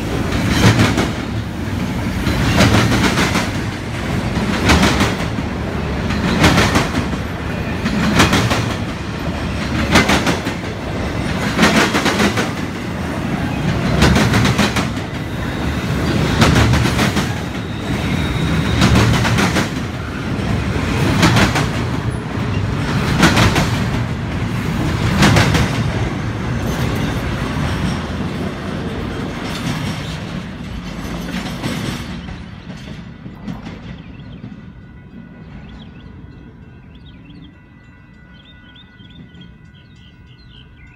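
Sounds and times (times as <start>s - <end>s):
train wheels clacking over rail joints: 0.0s - 34.6s.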